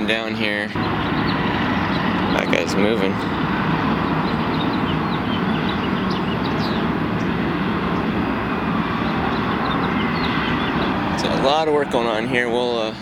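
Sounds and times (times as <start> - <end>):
construction and city noise: 0.0 - 13.0.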